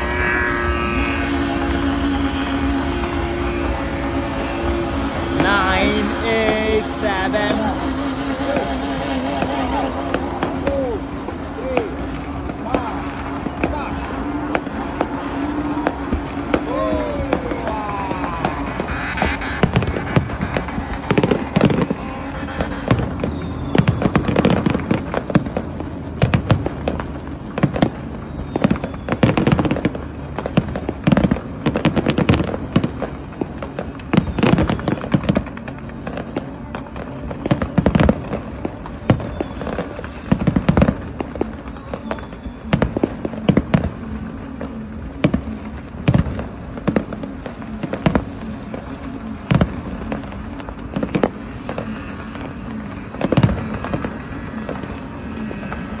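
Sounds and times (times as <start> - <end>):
fireworks bangs: 0.0 - 56.0
steady background noise: 0.0 - 56.0.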